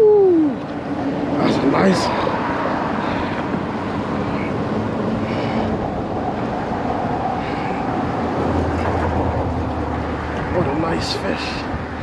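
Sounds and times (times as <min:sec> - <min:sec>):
vehicles rumbling on bridge: 0:00.0 - 0:12.0.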